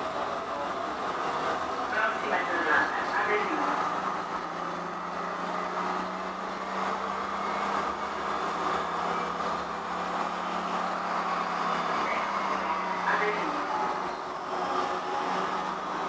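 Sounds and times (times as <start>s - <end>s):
tram wheels rolling on rails: 0.0s - 16.0s.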